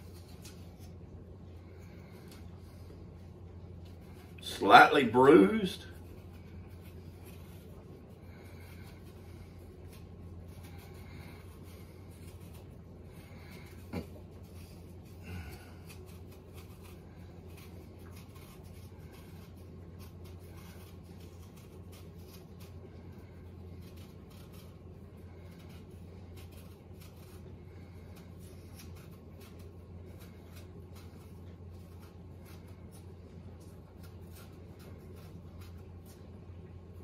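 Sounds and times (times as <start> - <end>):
knife scraping apple skin: 0.0 - 37.0
low hum: 0.0 - 37.0.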